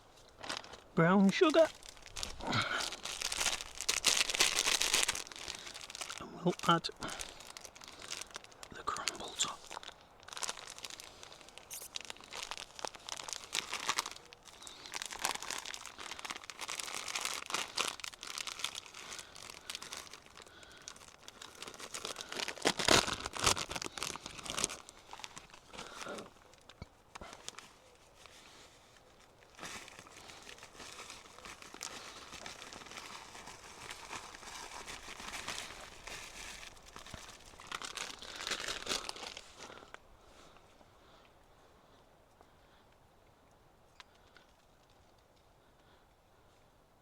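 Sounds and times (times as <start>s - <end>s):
crinkling and rustling: 0.0s - 40.7s.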